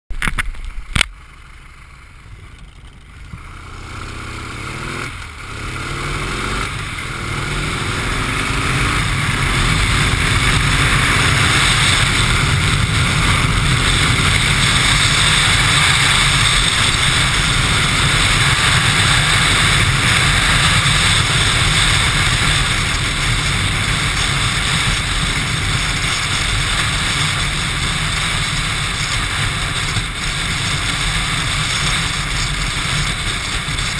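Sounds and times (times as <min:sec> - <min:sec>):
motorcycle engine accelerating: 0:00.2 - 0:33.9
wind rush on microphone: 0:04.8 - 0:33.9.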